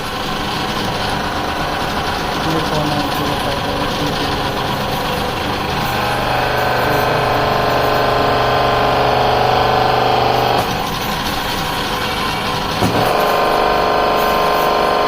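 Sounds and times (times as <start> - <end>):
electric motor running: 0.0 - 15.0
multi-tone hum under load: 0.0 - 15.0.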